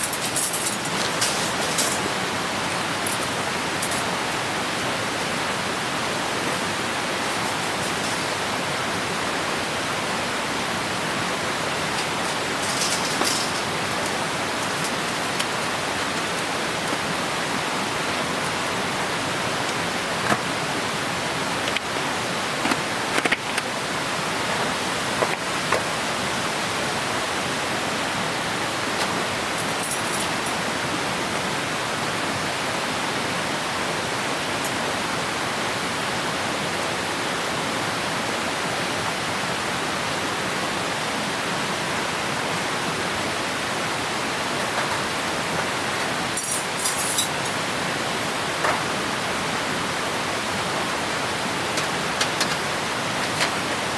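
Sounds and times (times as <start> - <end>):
stream rushing: 0.0 - 53.9.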